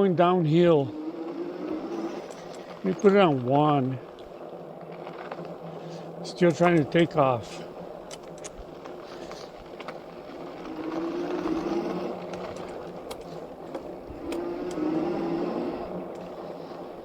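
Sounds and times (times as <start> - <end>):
bike tyres rolling on dirt: 0.0 - 17.0
low motor whine: 0.0 - 17.0
small ticks: 1.3 - 3.4, 4.1 - 17.0.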